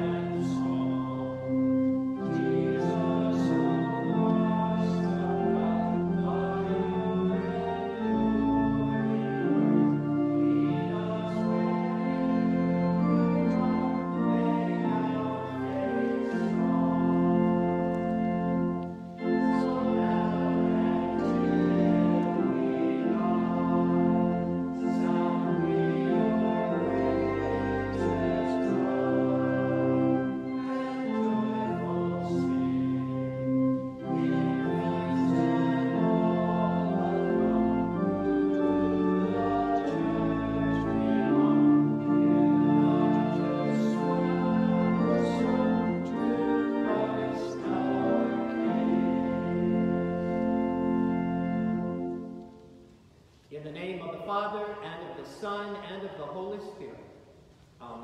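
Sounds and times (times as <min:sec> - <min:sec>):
organ playing slow chords: 0:00.0 - 0:53.1.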